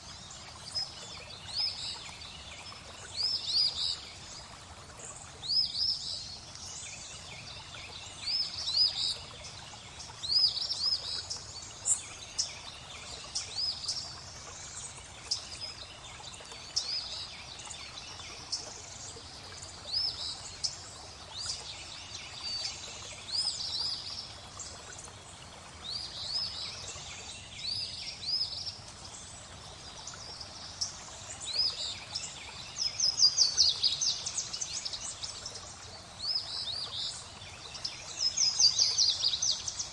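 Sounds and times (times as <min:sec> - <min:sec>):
flowing water: 0:00.0 - 0:39.9
small birds chirping: 0:00.0 - 0:39.9.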